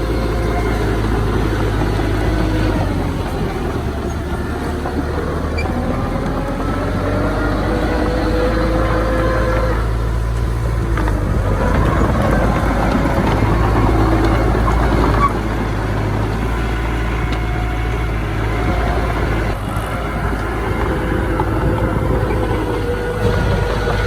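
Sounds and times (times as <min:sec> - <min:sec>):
diesel engine of earthmoving machine: 0:00.0 - 0:24.0.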